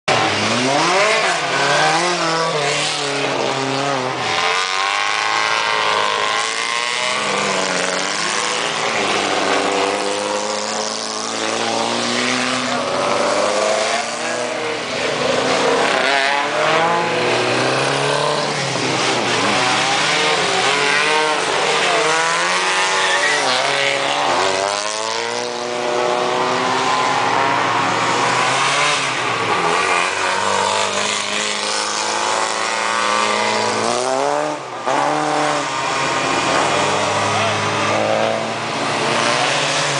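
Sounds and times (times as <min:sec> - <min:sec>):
rally cars racing past: 0:00.1 - 0:39.9.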